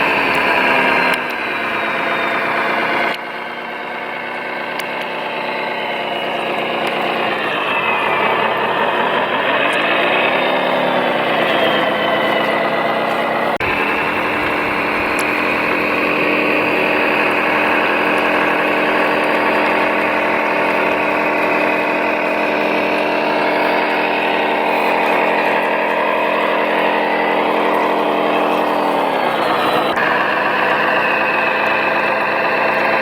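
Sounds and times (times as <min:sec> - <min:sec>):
model vehicle motor whine: 0:00.0 - 0:33.0.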